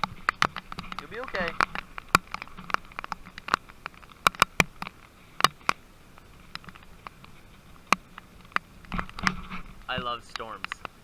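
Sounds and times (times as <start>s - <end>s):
big raindrops tapping: 0.0s - 11.0s
steady hiss of rainfall: 0.0s - 11.0s.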